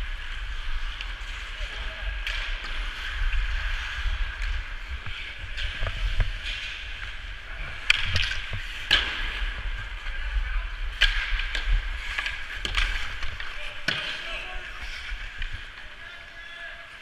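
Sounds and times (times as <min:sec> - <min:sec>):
skates scraping on ice: 0:00.0 - 0:17.0
hockey sticks and puck clacking: 0:00.1 - 0:17.0.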